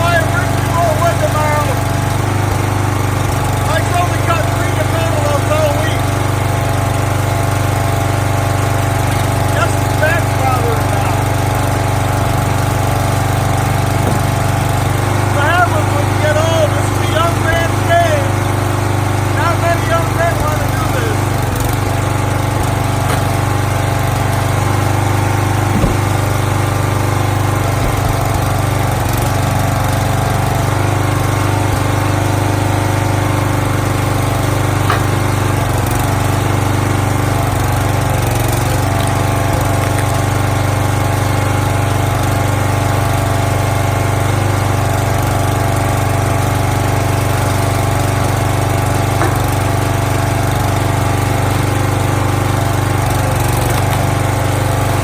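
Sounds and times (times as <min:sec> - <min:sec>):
small gas engine running: 0:00.0 - 0:55.0.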